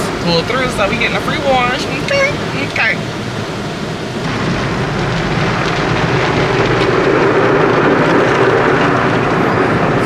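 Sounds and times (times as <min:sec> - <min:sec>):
car wash spraying water: 0:00.0 - 0:10.0.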